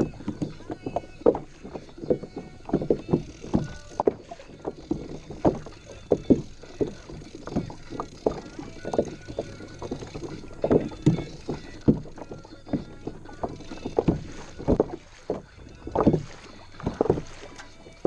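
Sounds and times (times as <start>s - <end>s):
waves slapping kayak hull: 0.0s - 18.0s.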